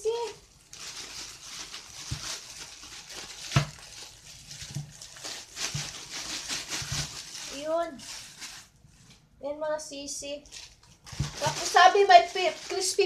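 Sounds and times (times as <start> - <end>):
plastic bags rustling: 0.0 - 9.3, 10.4 - 13.0.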